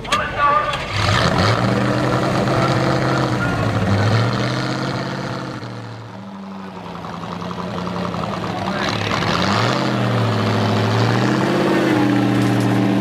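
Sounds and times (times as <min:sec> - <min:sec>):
truck engine pulling under load: 0:00.0 - 0:13.0.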